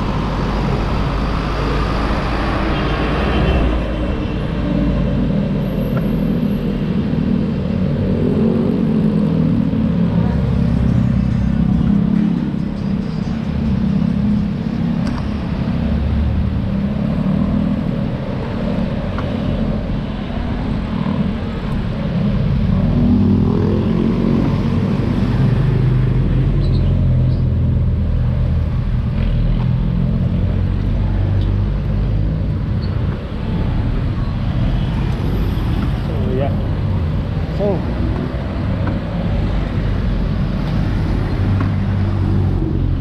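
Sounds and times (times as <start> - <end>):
vehicle road noise: 0.0 - 43.0.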